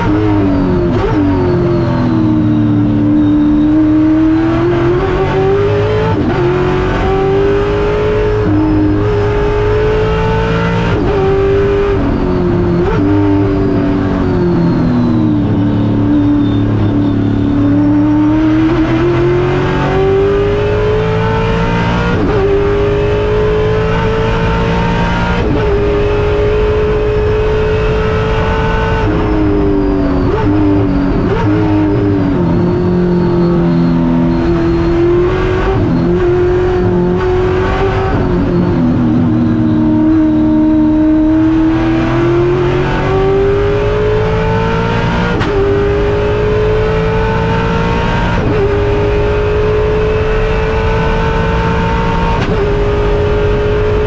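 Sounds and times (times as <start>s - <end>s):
engine blips on downshifts: 0.0s - 54.0s
race car engine accelerating: 0.0s - 54.0s.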